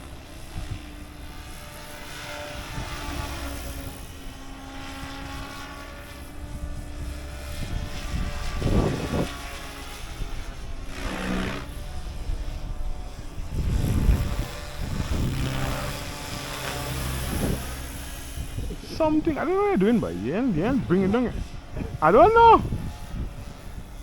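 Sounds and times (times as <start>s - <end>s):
rc helicopter rotor whine: 0.0s - 20.1s, 22.6s - 24.0s.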